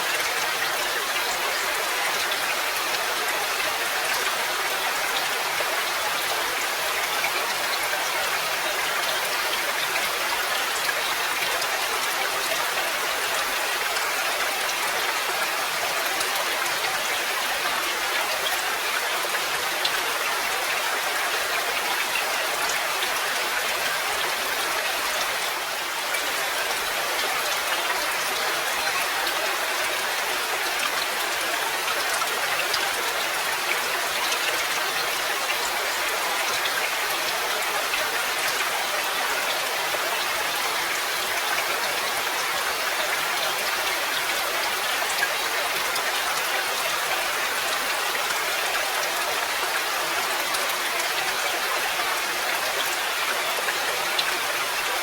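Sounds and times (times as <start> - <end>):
dense rainfall: 0.0 - 55.0.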